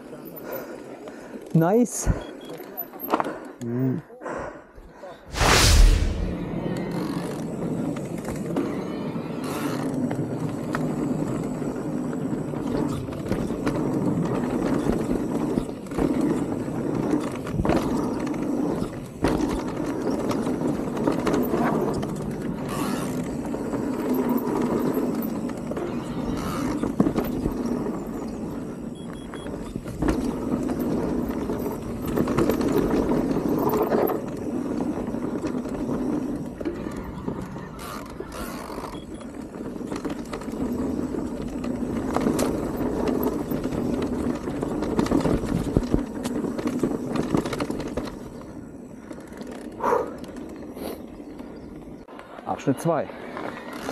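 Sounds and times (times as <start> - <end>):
bike tyres on dirt trail: 5.3 - 53.9
bike knocking and rattling: 9.4 - 53.9.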